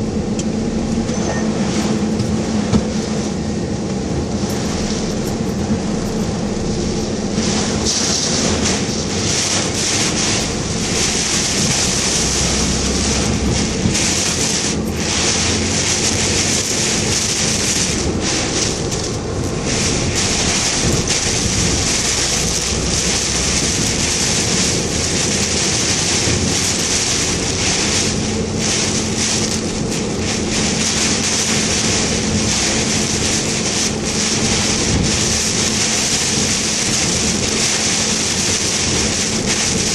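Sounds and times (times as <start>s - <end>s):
heavy rain and wind on car: 0.0s - 39.9s.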